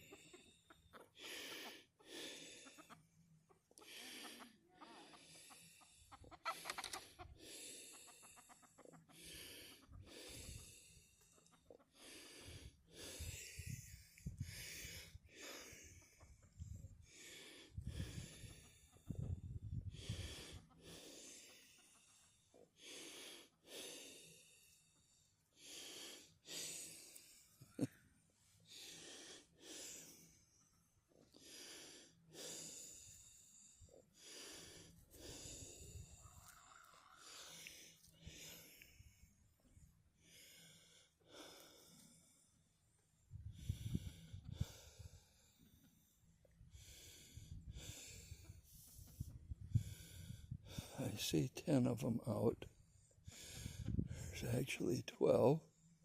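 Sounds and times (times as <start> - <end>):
hissy breaths: 3.7 - 51.3.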